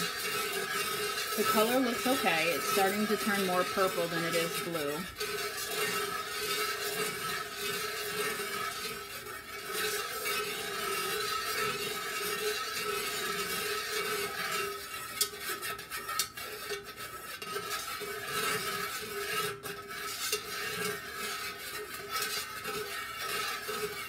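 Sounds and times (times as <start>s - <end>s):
whisk clinking on metal: 0.0s - 24.0s
whisk scraping metal pitcher: 0.0s - 24.0s.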